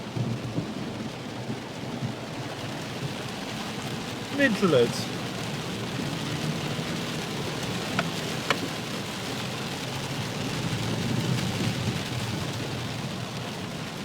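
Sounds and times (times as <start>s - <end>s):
flood water rushing: 1.3s - 14.0s.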